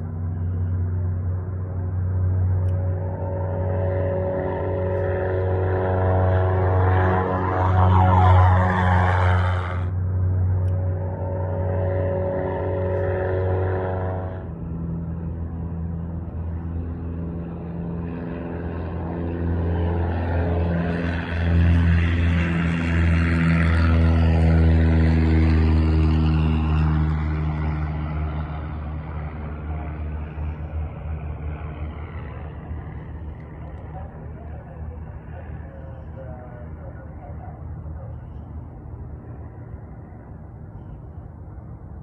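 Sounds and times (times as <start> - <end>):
propeller aircraft engine passing: 0.0 - 42.0.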